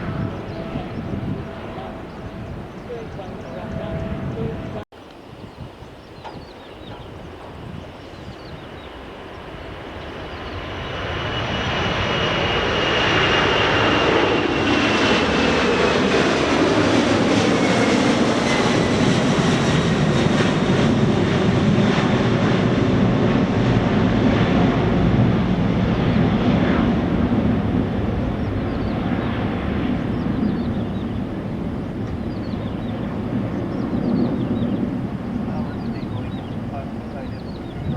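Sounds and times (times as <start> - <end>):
jet engines on takeoff: 0.0 - 37.9.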